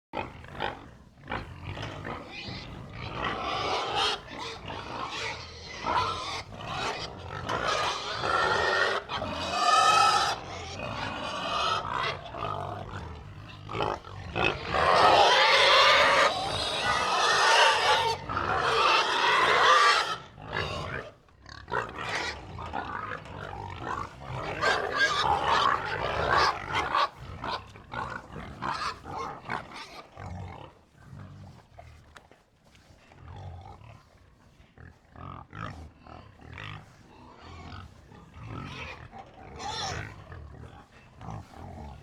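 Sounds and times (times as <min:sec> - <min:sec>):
pigs grunting: 0:00.2 - 0:42.0.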